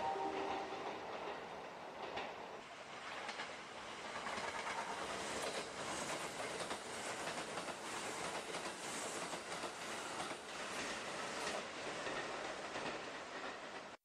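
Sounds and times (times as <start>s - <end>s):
train passing with rolling roar: 0.0s - 14.0s.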